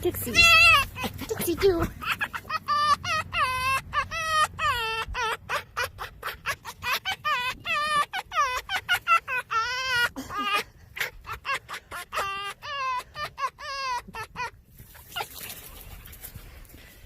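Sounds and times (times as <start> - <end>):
fox whining calls: 0.0 - 15.8.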